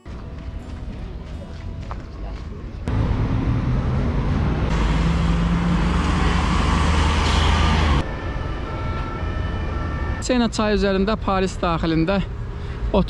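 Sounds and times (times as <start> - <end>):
bus engine humming: 0.0 - 13.0
city traffic: 0.0 - 13.0.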